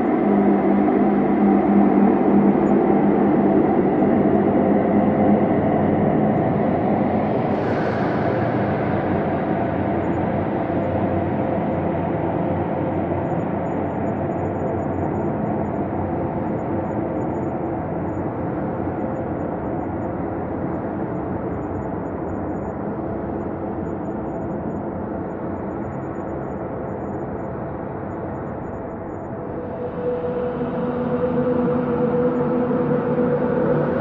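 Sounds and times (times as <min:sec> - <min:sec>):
synthesized ambient drone: 0:00.0 - 0:34.0.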